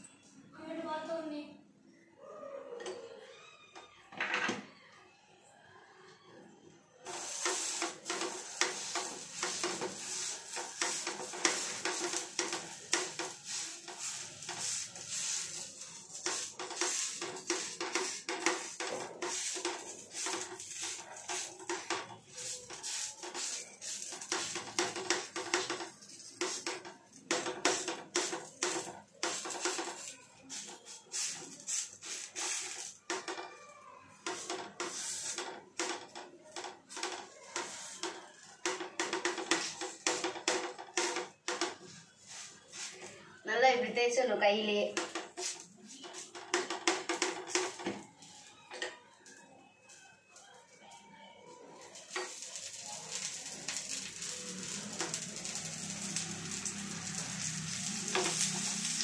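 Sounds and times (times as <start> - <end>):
dough sizzling on hot griddle: 7.0 - 33.5, 34.1 - 43.9, 44.9 - 50.6, 51.6 - 59.0.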